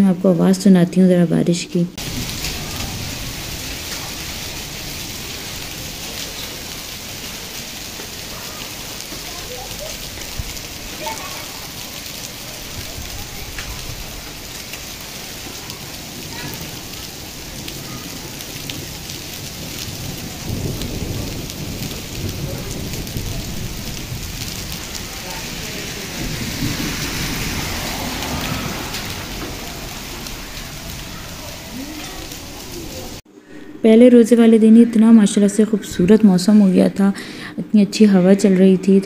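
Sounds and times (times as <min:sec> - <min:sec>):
low thunder rumble: 0:01.9 - 0:36.6
heavy rain falling: 0:02.0 - 0:33.2.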